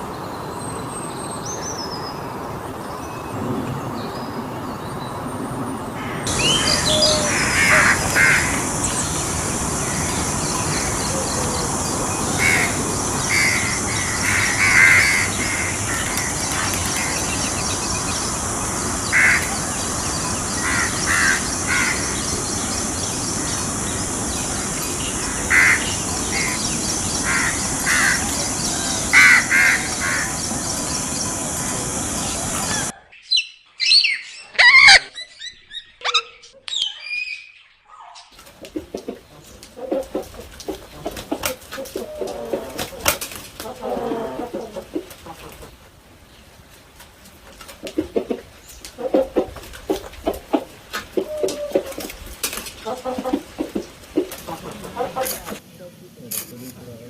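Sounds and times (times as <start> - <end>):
outdoor background hiss: 0.0 - 33.4, 38.4 - 57.0
birds harsh calls: 6.0 - 46.3, 47.7 - 55.6.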